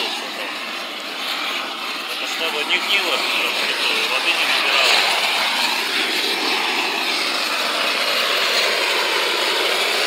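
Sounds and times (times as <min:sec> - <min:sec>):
blowtorch flame rushing: 0:00.0 - 0:10.0.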